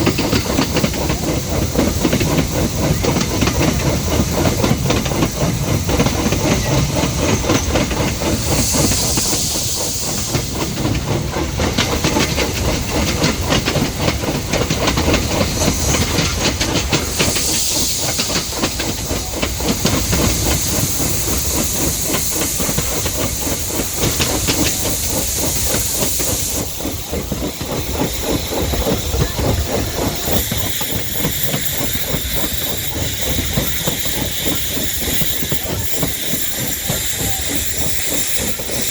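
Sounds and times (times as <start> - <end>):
steam hissing: 0.0 - 38.9
train wheels clattering rhythmically: 0.0 - 38.9.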